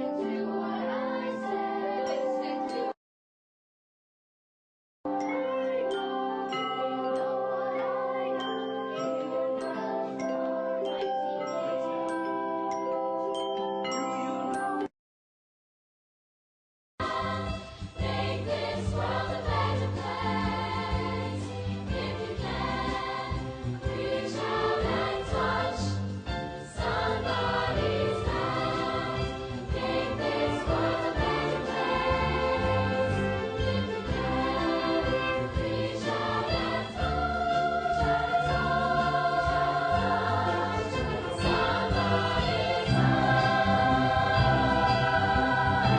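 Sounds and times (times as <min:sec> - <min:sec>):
children's choir singing: 0:00.0 - 0:03.0, 0:05.3 - 0:12.7, 0:17.0 - 0:45.9
musical accompaniment: 0:05.1 - 0:14.9, 0:17.0 - 0:45.9.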